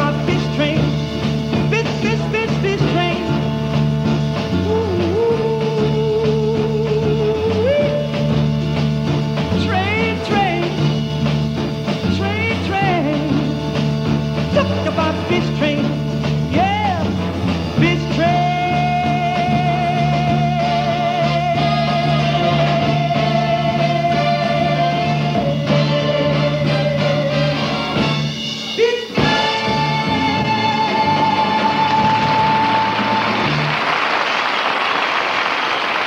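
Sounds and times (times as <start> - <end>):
upright bass: 0.0 - 34.0.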